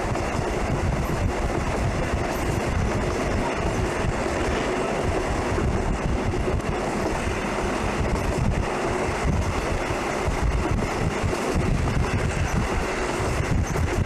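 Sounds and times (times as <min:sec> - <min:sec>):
moving train rumble: 0:00.0 - 0:14.0
wind buffeting microphone: 0:00.0 - 0:14.0.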